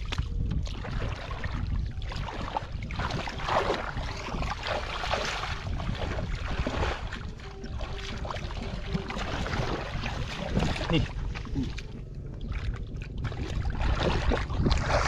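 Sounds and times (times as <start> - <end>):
muddy water splashing: 0.0 - 15.0
wind rumble on microphone: 0.0 - 15.0.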